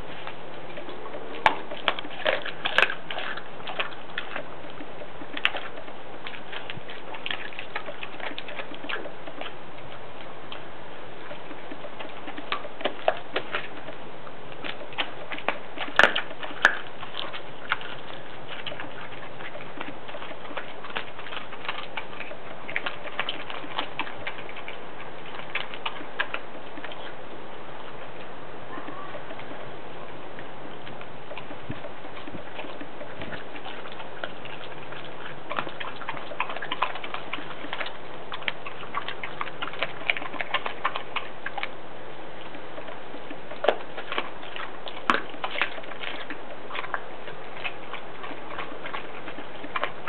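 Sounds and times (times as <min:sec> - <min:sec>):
dog chewing and crunching fish: 0:00.0 - 0:50.0.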